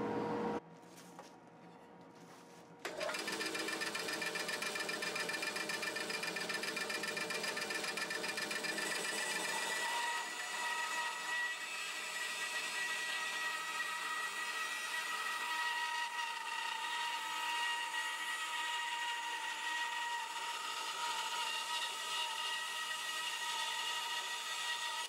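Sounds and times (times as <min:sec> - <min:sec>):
bandsaw cutting wood: 0:02.9 - 0:25.0.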